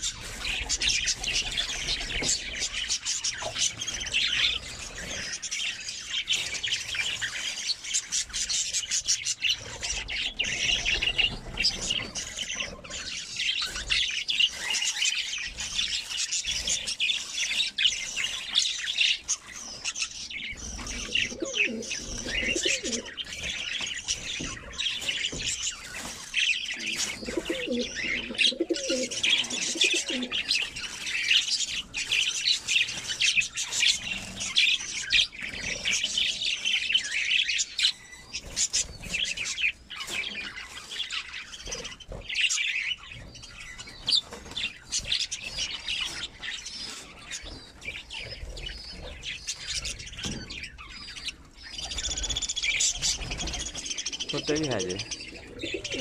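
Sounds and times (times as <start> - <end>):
budgerigars chirping and warbling: 0.0 - 56.0.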